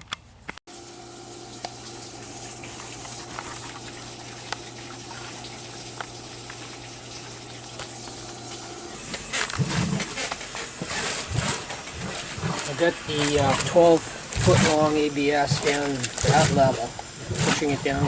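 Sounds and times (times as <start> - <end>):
water rushing down a pipe: 0.7 - 18.0.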